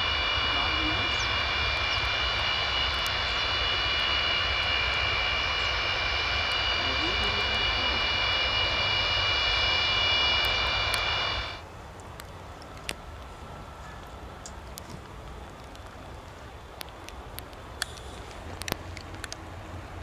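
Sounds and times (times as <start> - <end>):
aircraft engines whining: 0.0 - 20.0.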